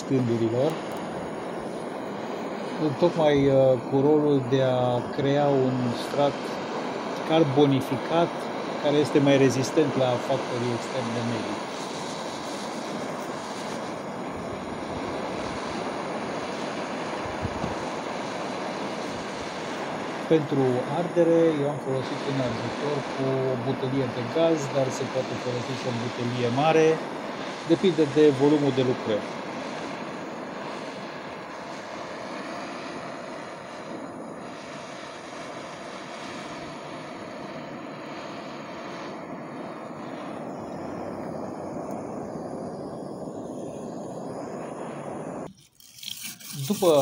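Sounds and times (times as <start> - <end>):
gas torch hissing: 0.0 - 47.0.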